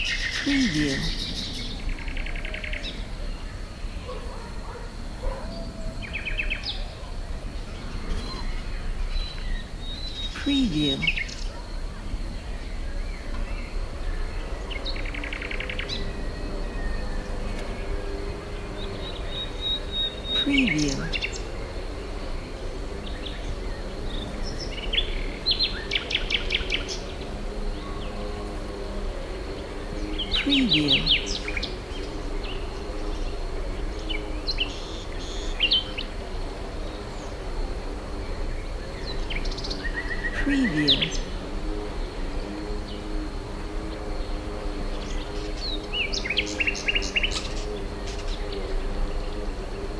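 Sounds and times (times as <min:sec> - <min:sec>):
distant rural murmur: 0:00.0 - 0:49.9
small birds chirping: 0:00.0 - 0:49.9.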